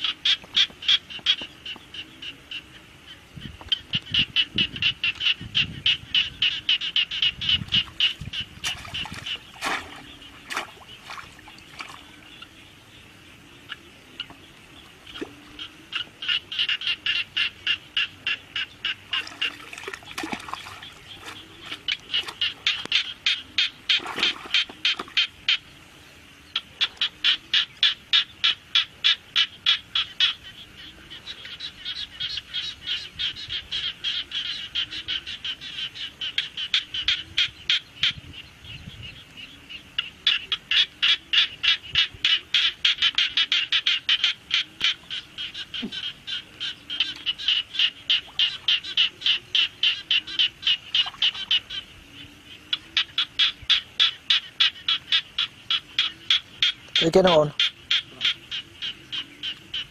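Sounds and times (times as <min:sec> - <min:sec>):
frog calling: 0:00.0 - 0:25.8, 0:26.4 - 0:59.9.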